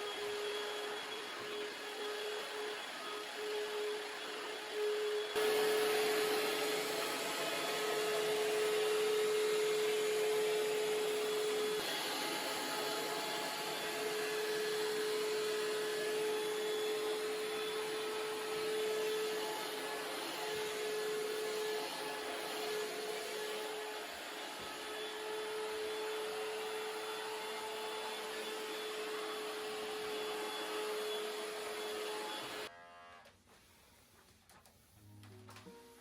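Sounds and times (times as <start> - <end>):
vacuum cleaner running: 0.0 - 32.7.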